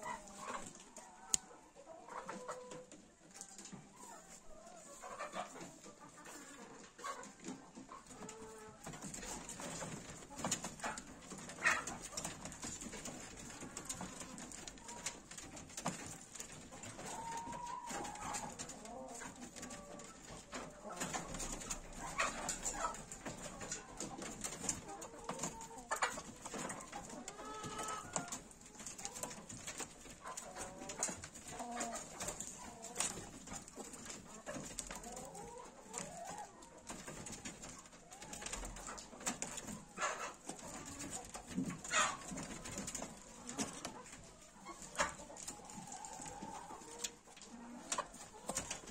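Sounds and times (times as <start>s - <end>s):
rabbits scuffling on wire floor: 0.0s - 48.9s.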